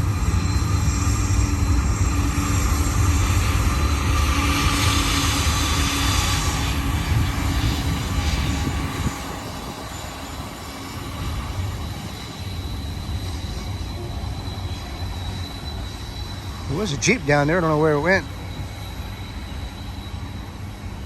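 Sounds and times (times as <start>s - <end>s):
distant freight train rumbling: 0.0s - 21.0s.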